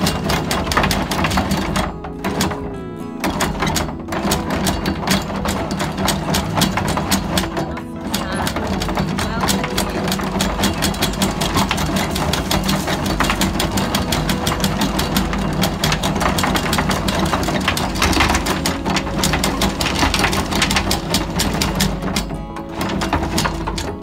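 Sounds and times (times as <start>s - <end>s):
anchor chain clattering: 0.0s - 24.0s
windlass motor hum: 0.0s - 24.0s.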